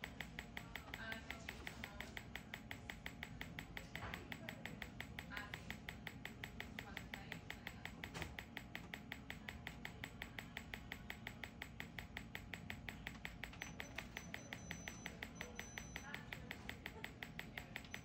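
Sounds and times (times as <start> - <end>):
machine pulsing sharp clicks: 0.0 - 18.0.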